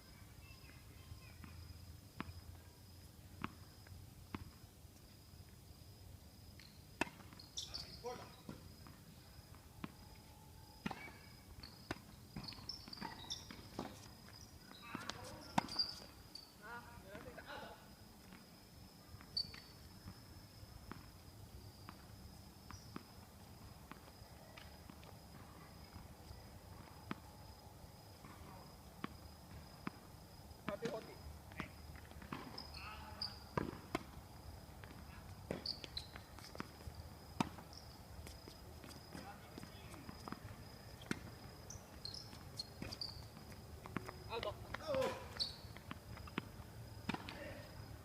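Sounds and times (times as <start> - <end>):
faint high whine: 0.0 - 48.0.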